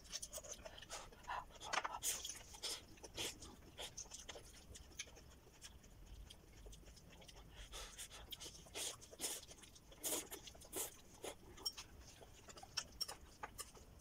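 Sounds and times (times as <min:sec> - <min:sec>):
chewing crisp vegetables: 0:00.0 - 0:14.0.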